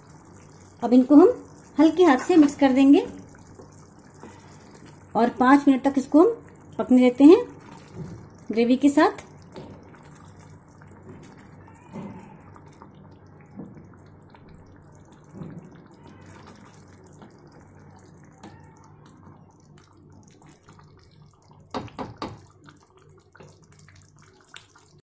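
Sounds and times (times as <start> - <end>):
low steady hum: 0.0 - 21.7.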